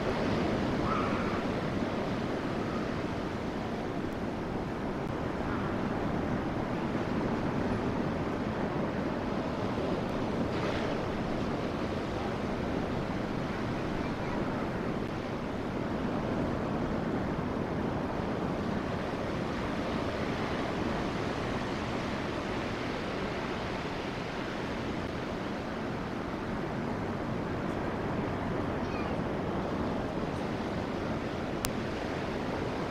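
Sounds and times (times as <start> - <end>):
sea surf rushing: 0.0 - 32.9
wind noise on microphone: 0.0 - 32.9.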